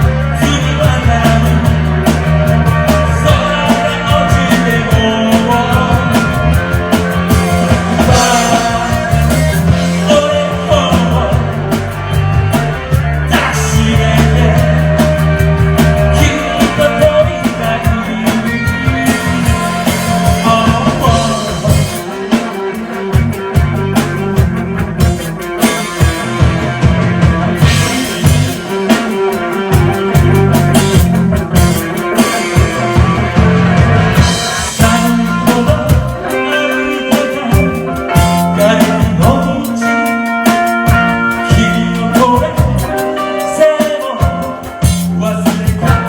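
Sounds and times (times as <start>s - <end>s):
drum beat: 0.0s - 46.0s
electric guitar: 0.0s - 46.0s
steady bass line: 0.0s - 46.0s.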